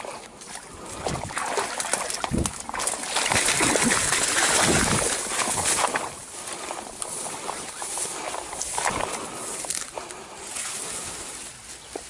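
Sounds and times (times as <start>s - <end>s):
fish splashing in shallow water: 0.0s - 12.0s
water sloshing: 0.0s - 12.0s
vegetation rustling: 2.2s - 12.0s.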